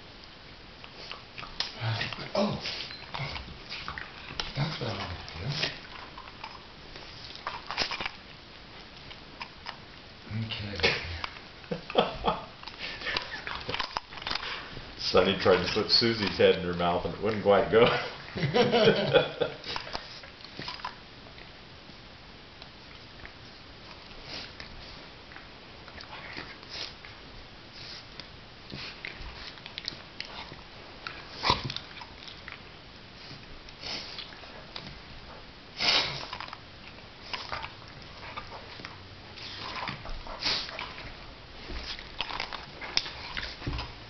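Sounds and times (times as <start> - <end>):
dogs scuffling and mouthing: 0.8 - 21.6, 22.6 - 44.0.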